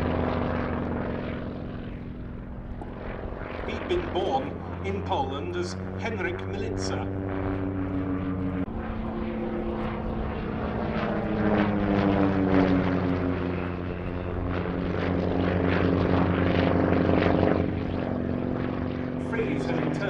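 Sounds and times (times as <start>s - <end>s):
radial aircraft engine: 0.0s - 20.0s.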